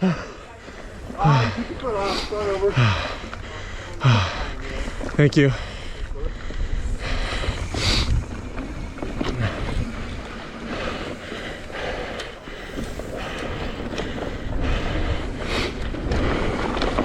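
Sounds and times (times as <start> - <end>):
bike tyre rumble on dirt: 0.0 - 17.0
wind buffeting microphone: 0.0 - 17.0.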